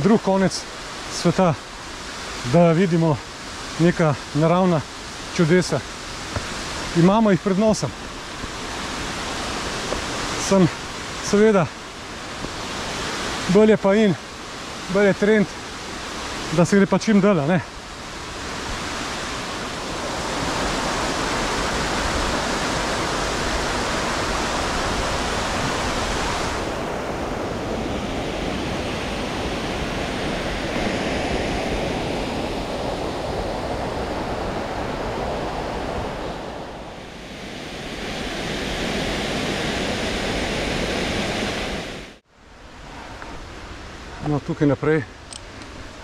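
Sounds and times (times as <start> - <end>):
waterfall rushing: 0.0 - 42.2.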